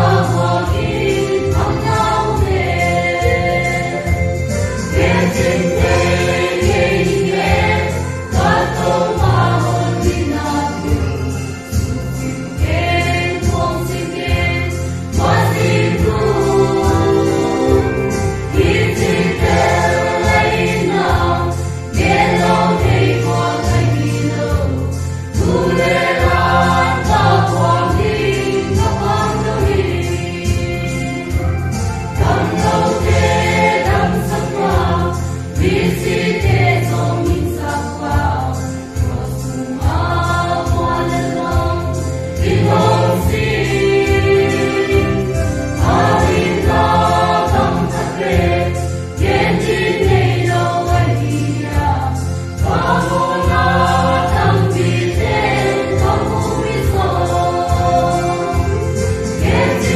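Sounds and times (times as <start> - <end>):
low instrumental accompaniment: 0.0 - 59.9
mixed choir singing in harmony: 0.0 - 59.9.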